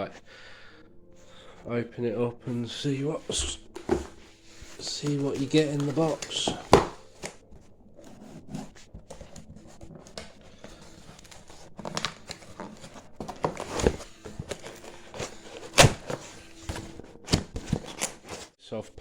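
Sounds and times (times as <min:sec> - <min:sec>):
cardboard packaging rustling: 0:00.0 - 0:18.5.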